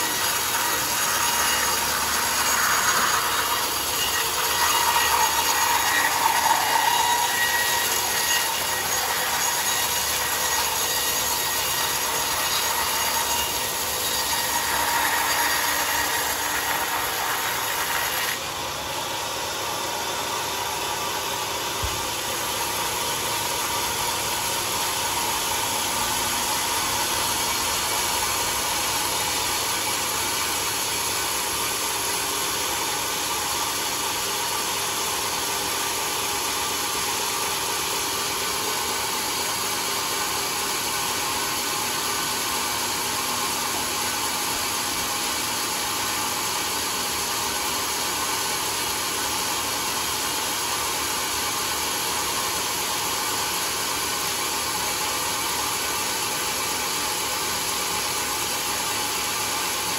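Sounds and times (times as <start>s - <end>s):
band sawmill running: 0.0s - 59.9s.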